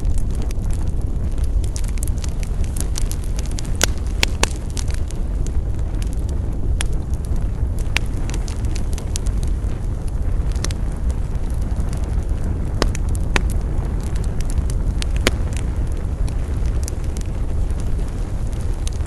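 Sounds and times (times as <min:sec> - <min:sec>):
fire crackles and pops: 0:00.0 - 0:19.0
wood fire rumbling: 0:00.0 - 0:19.0.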